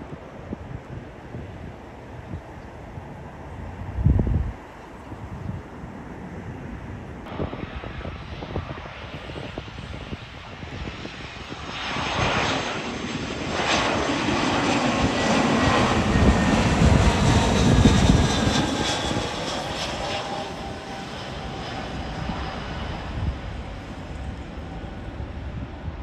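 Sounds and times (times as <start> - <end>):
jet airliner passing by: 0.0 - 26.0.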